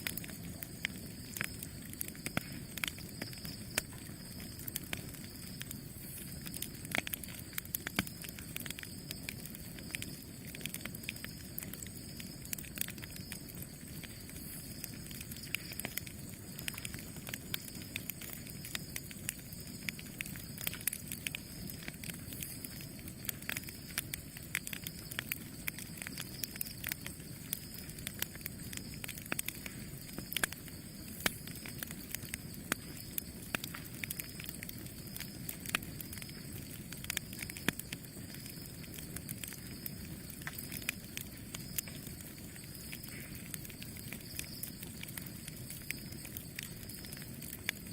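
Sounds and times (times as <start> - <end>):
campfire burning: 0.0 - 47.9.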